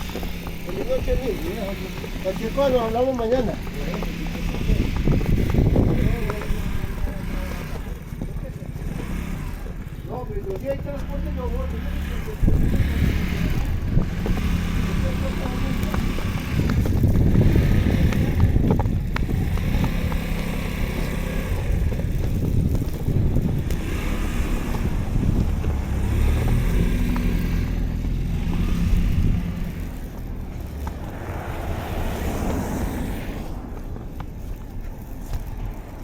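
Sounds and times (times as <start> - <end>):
vehicle engine hum: 0.0 - 36.0
wind rumble on microphone: 0.0 - 36.0.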